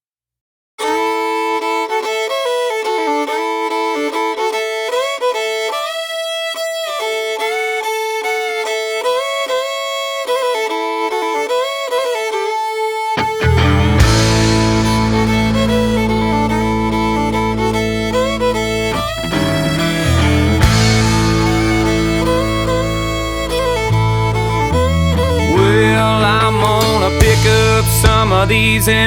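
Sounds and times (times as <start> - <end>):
solo fiddle melody: 0.8 - 29.0.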